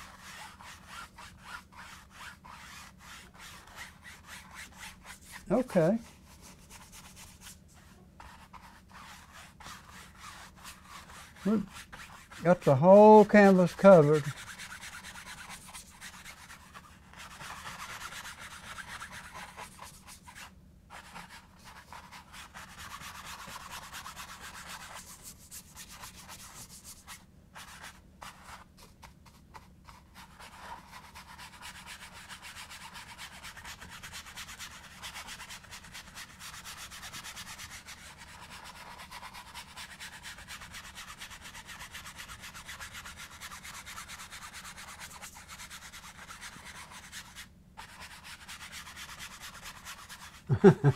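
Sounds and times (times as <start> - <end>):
paintbrush scrubbing canvas: 0.0 - 50.9.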